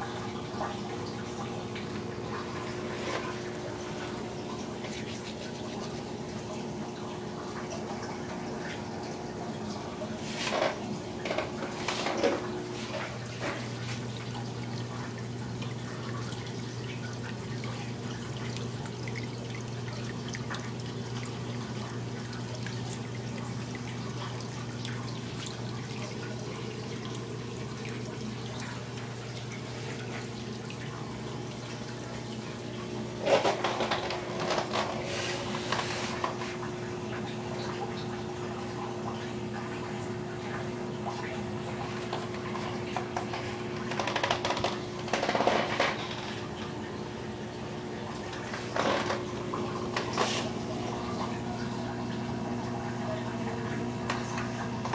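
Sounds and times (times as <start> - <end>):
aquarium pumps humming: 0.0 - 54.9
water trickling and splashing: 0.0 - 54.9.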